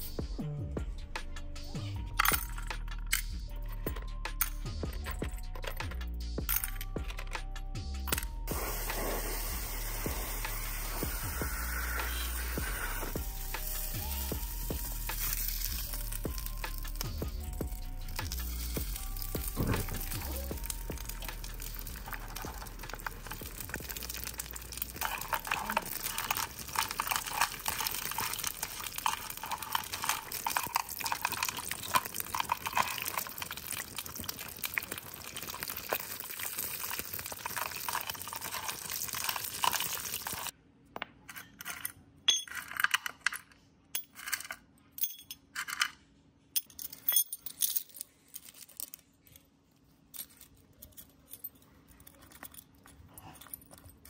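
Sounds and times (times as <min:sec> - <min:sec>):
small metal parts clinking: 0:02.1 - 0:07.4, 0:11.8 - 0:40.5, 0:41.2 - 0:54.0.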